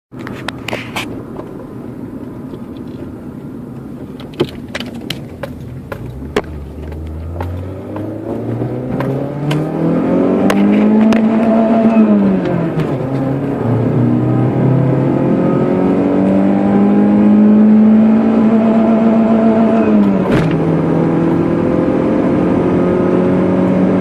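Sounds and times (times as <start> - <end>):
car engine revving: 4.0 - 24.0.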